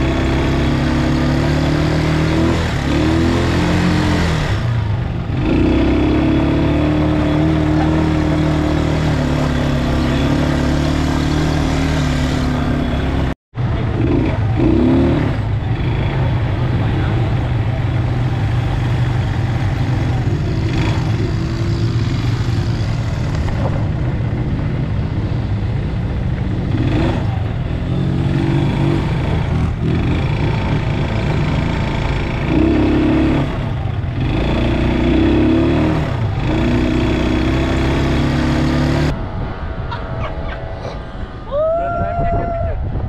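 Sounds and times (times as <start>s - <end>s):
quad bike engine revving: 0.0s - 39.2s.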